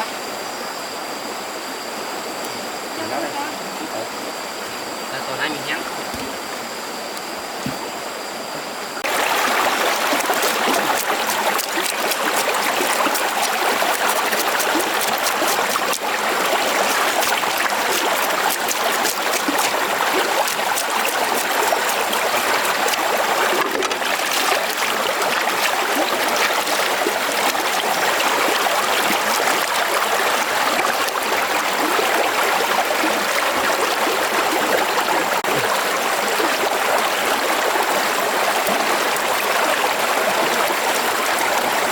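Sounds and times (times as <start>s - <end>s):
stream water rushing: 2.2s - 41.9s.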